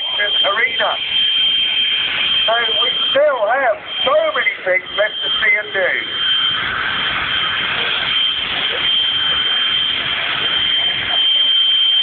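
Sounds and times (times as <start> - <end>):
turbine engine running: 0.0 - 12.0.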